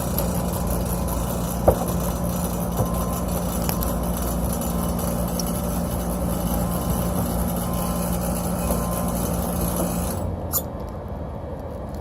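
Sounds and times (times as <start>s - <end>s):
compressor humming: 0.0s - 10.8s
condenser fan rushing: 0.0s - 12.0s.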